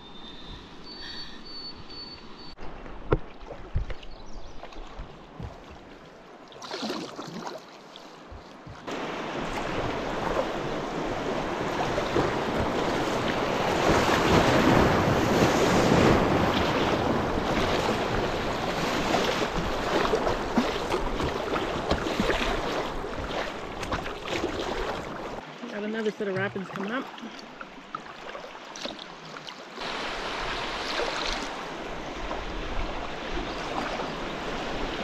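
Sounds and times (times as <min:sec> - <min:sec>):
paddle strokes on calm water: 0:02.5 - 0:35.0
waves splashing against kayak: 0:02.6 - 0:35.0.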